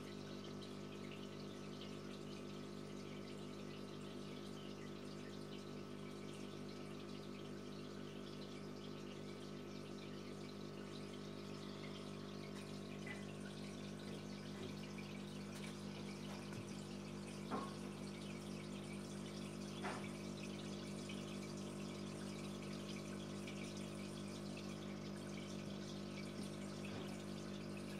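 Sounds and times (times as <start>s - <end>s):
aquarium pump humming: 0.0s - 27.9s
bubbling trickling water: 0.0s - 27.9s
water drips: 0.0s - 27.9s.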